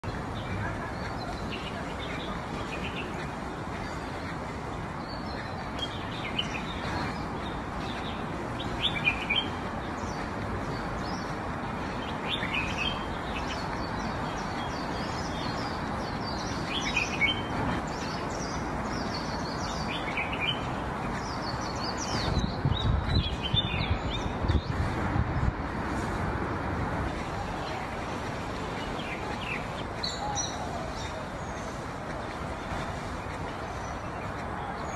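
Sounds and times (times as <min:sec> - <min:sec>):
outdoor background hiss: 0:00.0 - 0:34.9
small birds chirping: 0:00.0 - 0:34.9.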